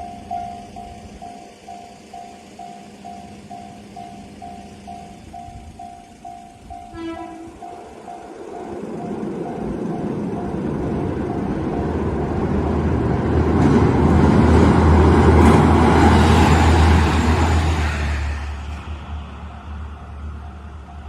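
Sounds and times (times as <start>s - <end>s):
crossing warning bell clanging: 0.0s - 21.0s
train rumbling past: 0.0s - 21.0s.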